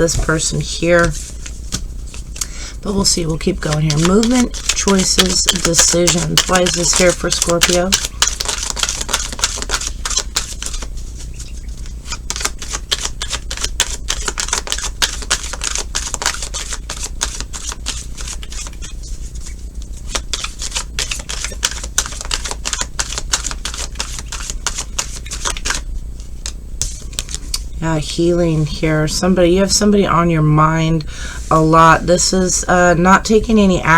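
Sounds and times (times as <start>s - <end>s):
cards being shuffled: 0.0s - 27.7s.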